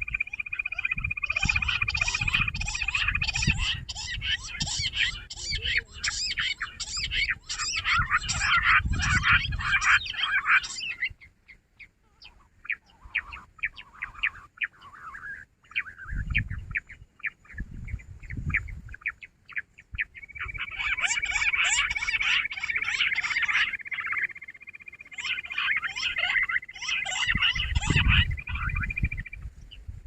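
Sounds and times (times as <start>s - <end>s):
chorus of birds calling: 0.0s - 29.9s
quail chirps: 0.0s - 29.9s.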